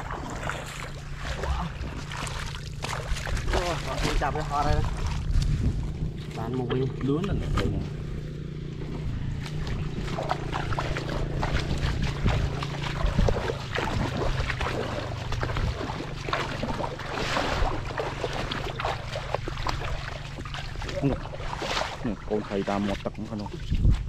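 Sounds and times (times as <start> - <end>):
feet splashing through muddy water: 0.0 - 24.0
steady low hum: 0.0 - 24.0.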